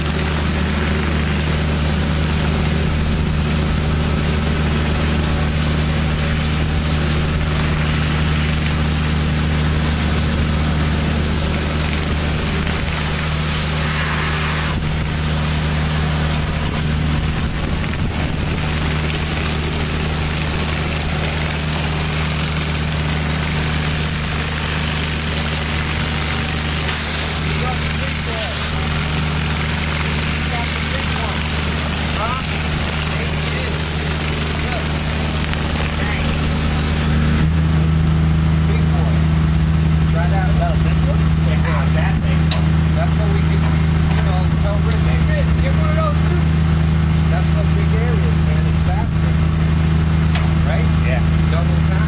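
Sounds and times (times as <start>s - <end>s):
pressure washer engine running: 0.0s - 52.0s
water spraying onto paving stones: 0.0s - 52.0s.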